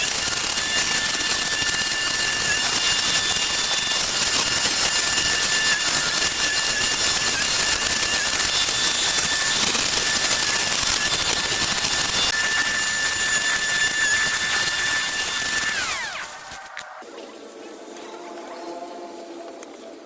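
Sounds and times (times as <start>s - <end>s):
small engine tool running: 0.0s - 17.0s.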